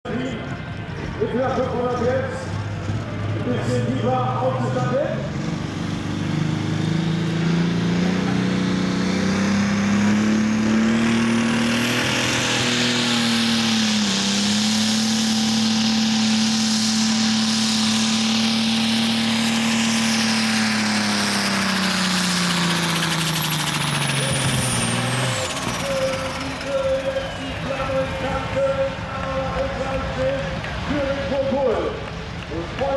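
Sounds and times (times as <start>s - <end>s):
tractor diesel engine revving: 0.1s - 32.9s.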